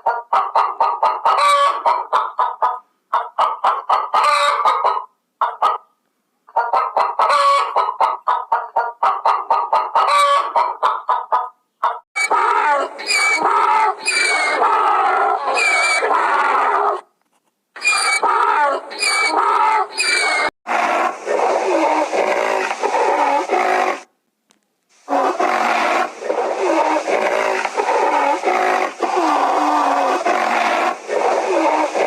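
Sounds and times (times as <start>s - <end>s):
chickens squawking: 0.0s - 5.9s, 6.5s - 17.0s, 17.8s - 24.1s, 25.1s - 32.0s
chickens clucking: 0.0s - 17.0s, 17.8s - 24.1s, 25.1s - 32.0s.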